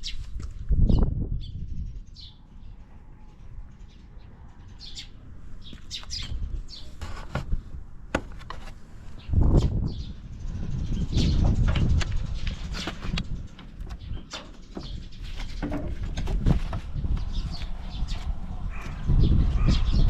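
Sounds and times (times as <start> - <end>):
small birds chirping: 0.0 - 7.4, 9.1 - 20.0.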